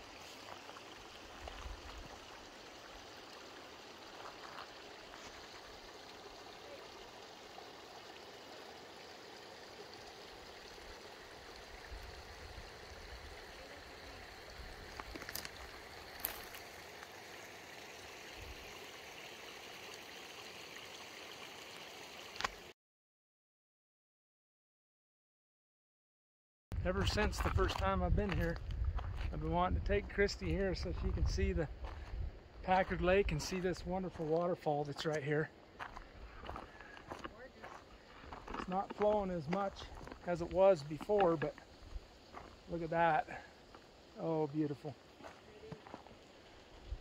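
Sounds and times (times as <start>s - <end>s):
small waterfall trickling: 0.0s - 22.8s, 28.5s - 47.0s.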